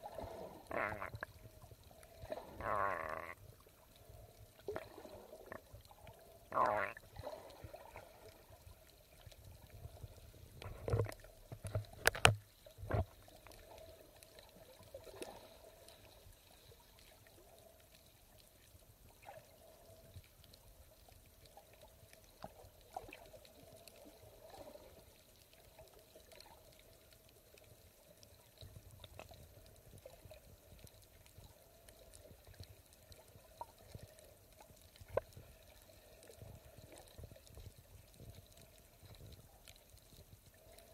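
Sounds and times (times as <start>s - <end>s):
muffled underwater water movement: 0.0s - 40.9s
small ticks: 0.4s - 40.9s.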